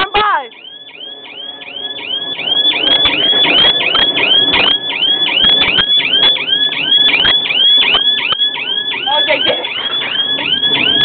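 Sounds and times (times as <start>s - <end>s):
car alarm siren chirping: 0.0s - 11.0s.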